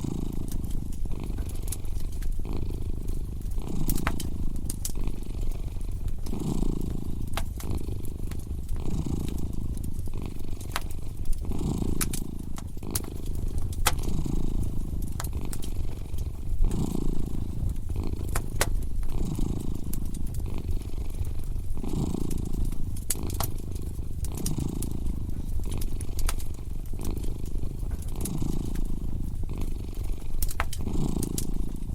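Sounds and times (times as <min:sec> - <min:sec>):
cat purring: 0:00.0 - 0:31.9
wood fire crackling: 0:00.0 - 0:31.9.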